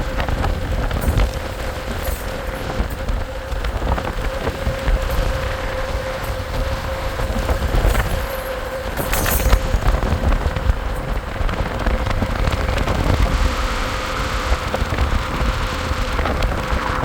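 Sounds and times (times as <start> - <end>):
road noise rumble: 0.0 - 17.0
wind buffeting microphone: 0.0 - 17.0.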